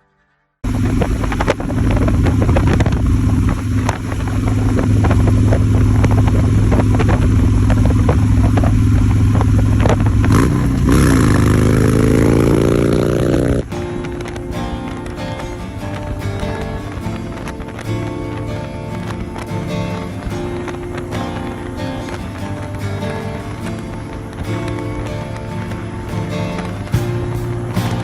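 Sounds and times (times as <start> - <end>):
motorcycle engine running: 0.6 - 28.0
wind noise: 0.6 - 28.0.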